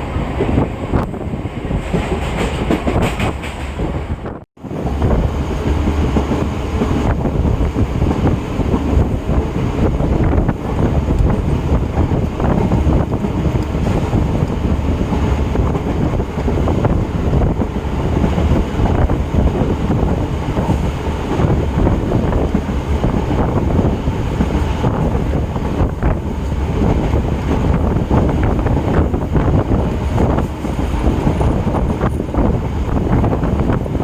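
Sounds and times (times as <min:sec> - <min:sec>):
train wheels rumbling on track: 0:00.0 - 0:34.0
wind buffeting microphone: 0:00.0 - 0:34.0.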